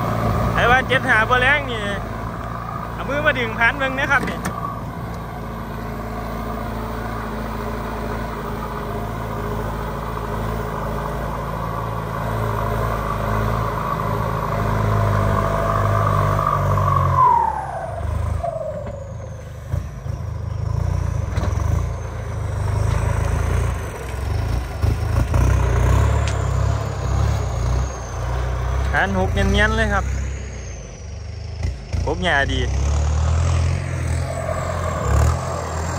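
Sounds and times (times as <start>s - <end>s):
tractor engine under load: 0.0s - 16.9s, 18.0s - 35.9s.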